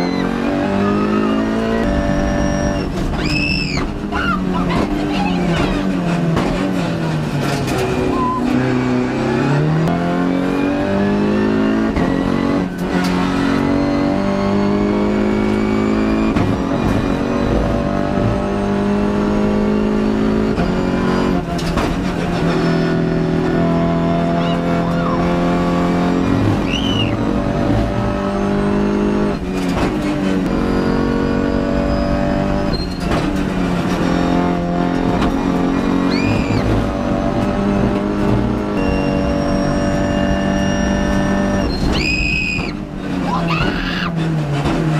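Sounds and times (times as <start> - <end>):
race car engine revving through gears: 0.0 - 44.9.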